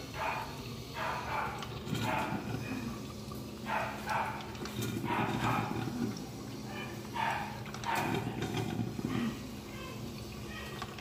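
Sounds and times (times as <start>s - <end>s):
coffee maker gurgling and sputtering: 0.0s - 11.0s.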